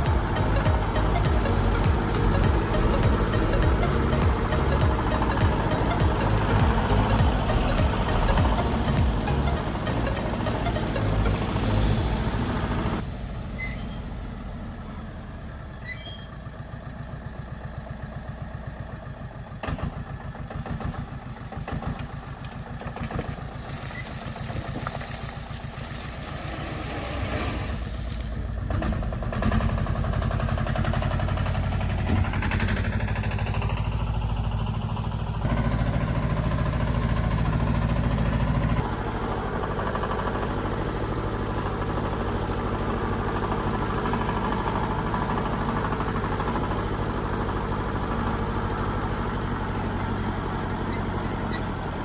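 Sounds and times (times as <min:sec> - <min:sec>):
heavy machinery diesel engine: 0:00.0 - 0:52.0.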